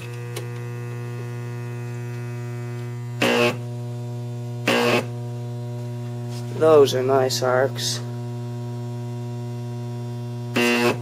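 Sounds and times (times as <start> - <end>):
high-voltage arc bursts: 0.0 - 11.0
transformer humming loudly: 0.0 - 11.0.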